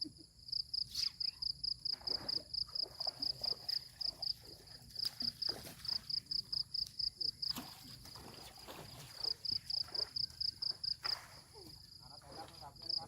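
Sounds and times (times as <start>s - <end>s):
insect chirping: 0.0s - 7.6s, 8.6s - 13.0s.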